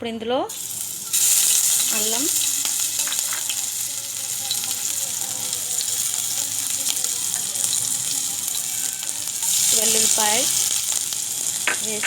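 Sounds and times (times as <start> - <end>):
ginger sizzling in hot oil: 0.5 - 12.0.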